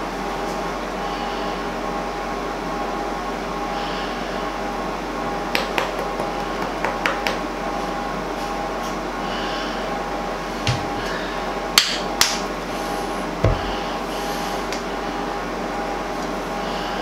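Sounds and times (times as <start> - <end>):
background hiss and hum: 0.0 - 17.0.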